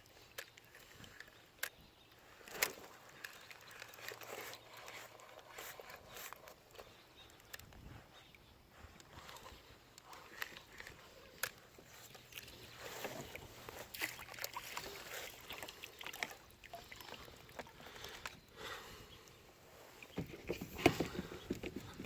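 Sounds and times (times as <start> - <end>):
water sloshing against kayak: 0.2 - 22.0.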